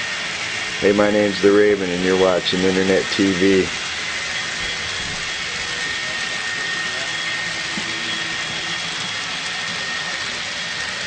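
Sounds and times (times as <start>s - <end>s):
high whine of small motors: 0.0s - 11.0s
model train wheels rolling on track: 0.0s - 11.0s.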